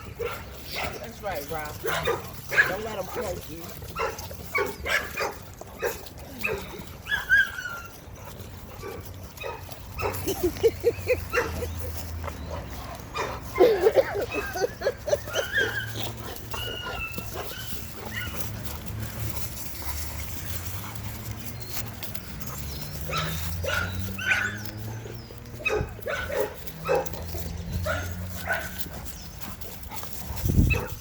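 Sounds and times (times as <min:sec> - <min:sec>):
dogs barking: 0:00.0 - 0:31.0
dogs whining and yipping: 0:00.0 - 0:31.0.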